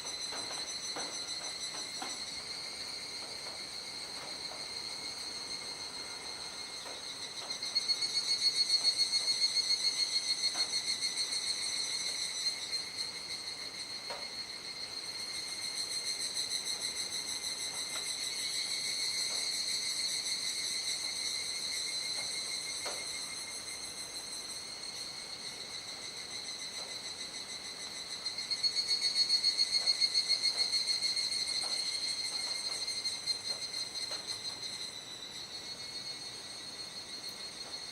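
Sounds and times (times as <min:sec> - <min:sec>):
cicadas trilling: 0:00.0 - 0:37.9.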